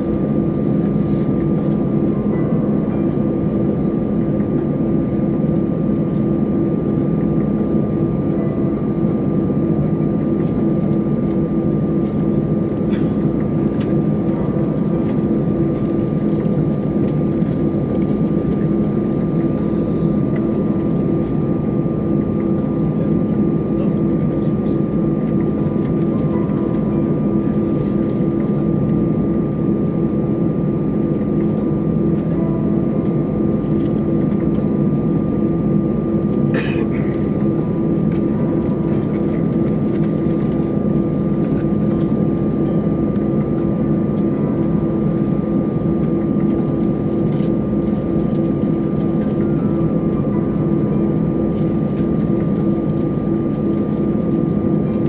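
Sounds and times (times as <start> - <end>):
jet engines idling: 0.0 - 55.0
steady high whine: 0.0 - 55.0.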